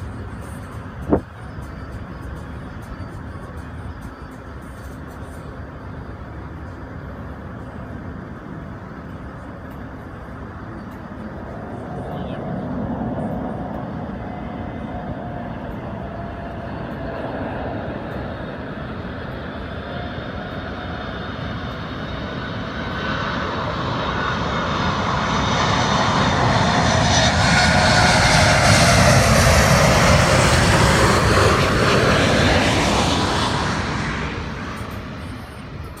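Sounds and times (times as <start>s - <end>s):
jet plane passing low: 0.0s - 36.0s.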